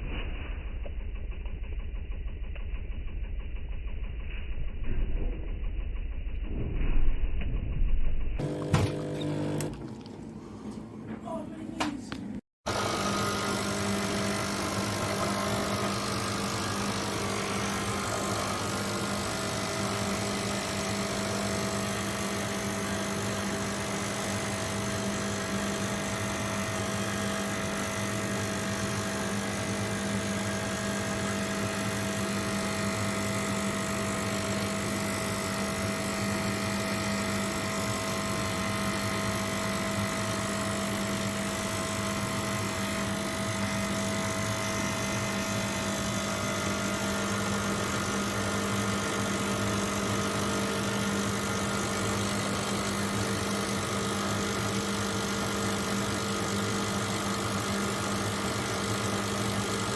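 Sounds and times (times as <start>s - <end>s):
espresso machine pump humming: 8.4s - 10.9s, 12.7s - 59.9s.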